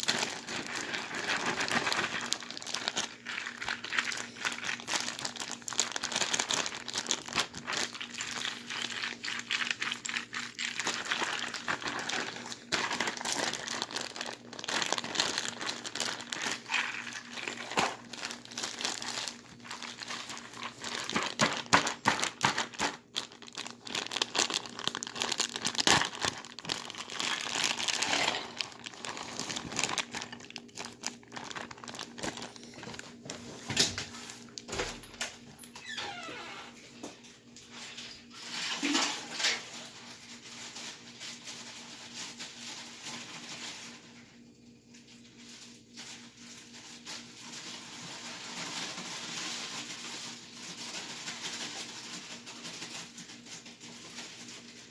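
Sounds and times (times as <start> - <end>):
plastic bags crinkling: 0.0 - 37.1, 37.7 - 44.3, 45.0 - 54.9.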